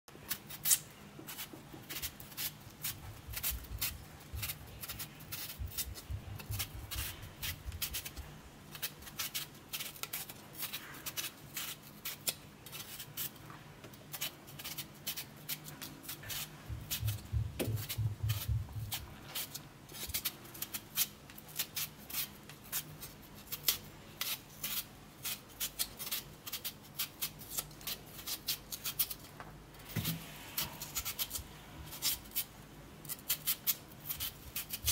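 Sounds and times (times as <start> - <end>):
blade scraping potato: 0.3 - 13.4, 14.1 - 29.2, 29.8 - 34.9.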